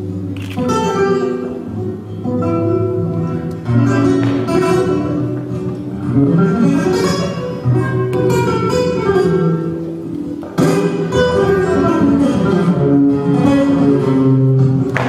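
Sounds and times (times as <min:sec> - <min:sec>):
flamenco guitar music: 0:00.0 - 0:15.0
sharp guitar strums: 0:00.0 - 0:15.0.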